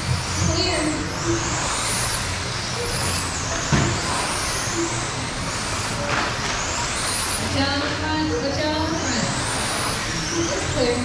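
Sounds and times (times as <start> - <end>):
electric motors whining: 0.0 - 11.0
steady rushing noise: 0.0 - 11.0.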